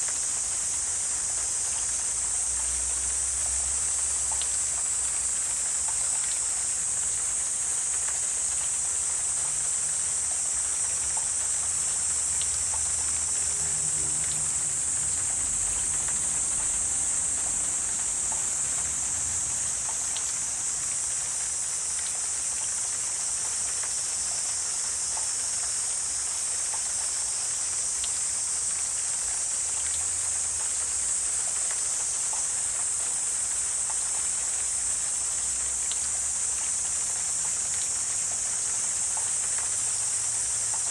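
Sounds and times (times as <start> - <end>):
insects chorus: 0.0 - 40.9
faint ticks: 2.6 - 14.5, 15.2 - 19.0, 19.6 - 40.9.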